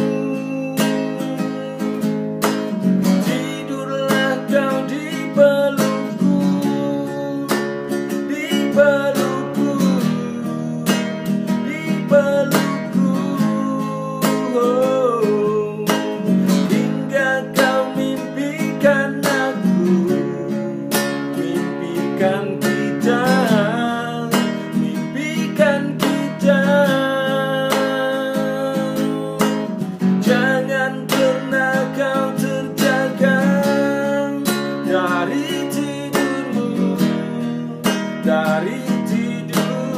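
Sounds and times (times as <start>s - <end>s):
classical guitar strumming chords: 0.0s - 39.9s
man singing: 0.0s - 39.9s.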